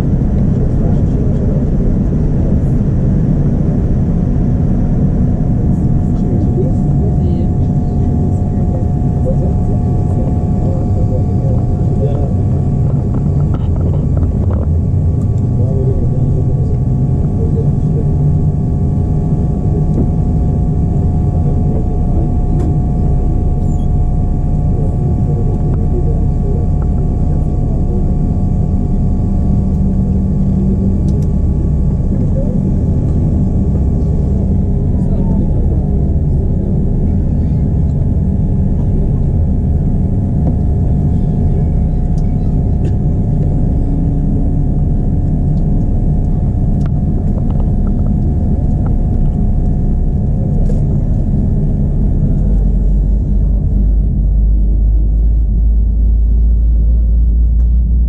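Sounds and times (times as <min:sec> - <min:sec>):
airplane engines in cabin: 0:00.0 - 0:58.0
faint steady hum: 0:00.0 - 0:58.0
steady whining tones: 0:00.0 - 0:58.0.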